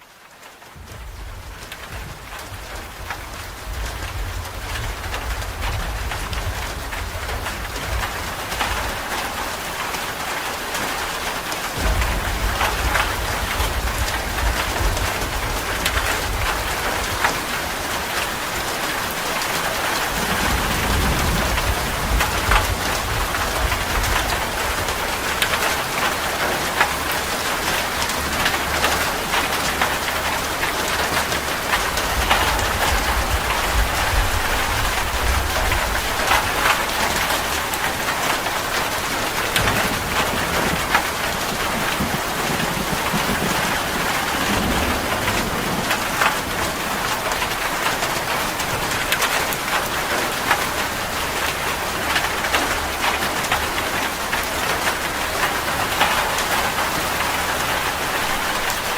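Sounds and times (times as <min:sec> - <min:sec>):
rain falling on leaves: 0:00.0 - 0:58.9.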